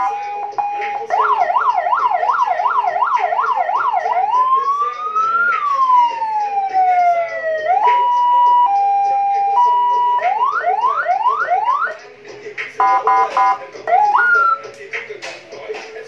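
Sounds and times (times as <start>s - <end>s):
electronic siren yelping and wailing: 0.0s - 12.0s, 12.8s - 14.6s.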